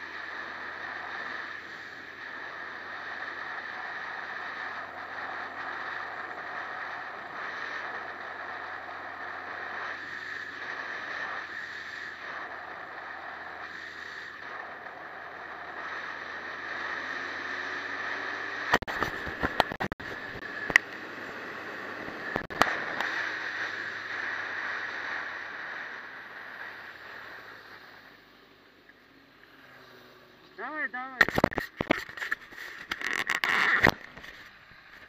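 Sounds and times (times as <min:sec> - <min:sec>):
motorcycle engine running: 0:00.0 - 0:30.6
wind and road noise: 0:00.0 - 0:35.0.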